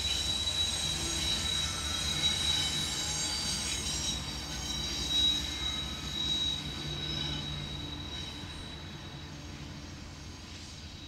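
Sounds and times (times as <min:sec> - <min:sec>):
train wheel squeal: 0:00.0 - 0:11.0.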